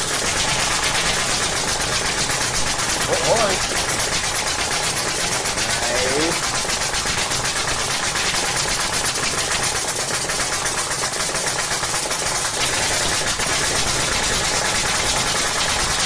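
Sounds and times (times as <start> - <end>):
small motorised tool rattling: 0.0 - 16.0.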